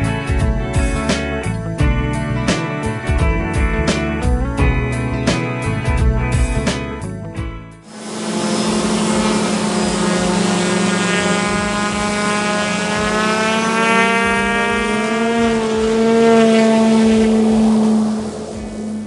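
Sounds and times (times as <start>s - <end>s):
propeller aircraft engine drone: 0.0s - 7.1s, 7.8s - 19.0s.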